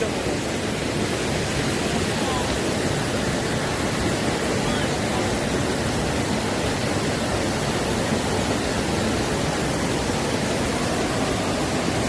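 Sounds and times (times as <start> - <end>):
stream water rushing over rocks: 0.0 - 12.0.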